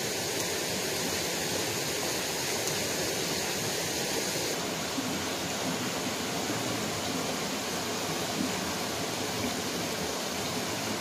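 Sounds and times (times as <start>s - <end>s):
stream water running over rocks: 0.0s - 11.0s.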